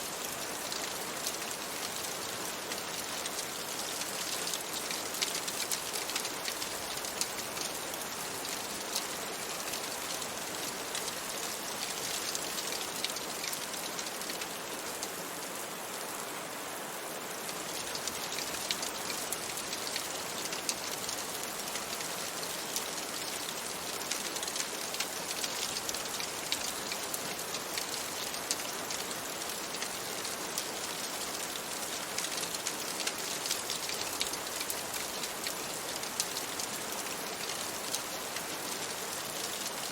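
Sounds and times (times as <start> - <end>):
rain drops ticking: 0.0 - 15.4, 17.3 - 39.9
steady rain: 0.0 - 39.9.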